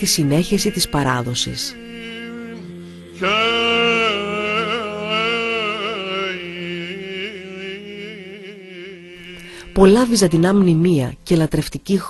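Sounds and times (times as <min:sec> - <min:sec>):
held drone note: 0:00.0 - 0:10.7
solo voice chanting: 0:00.0 - 0:10.8.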